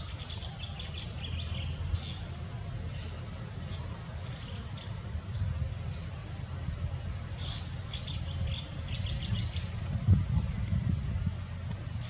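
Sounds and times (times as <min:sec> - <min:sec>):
small birds chirping: 0:00.0 - 0:06.4, 0:07.3 - 0:10.9
low outdoor rumble: 0:00.0 - 0:12.0.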